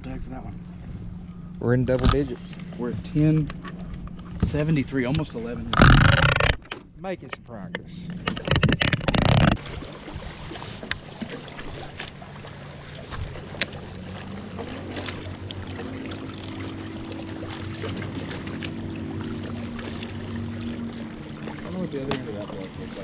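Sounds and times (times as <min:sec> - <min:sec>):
electric trolling motor humming: 0:00.0 - 0:23.0
water noise: 0:00.0 - 0:23.0.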